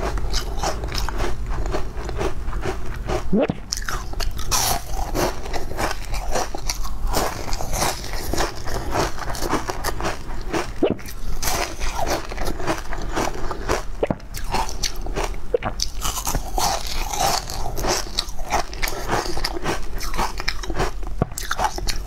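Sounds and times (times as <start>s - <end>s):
crunchy snack chewing: 0.0s - 22.0s.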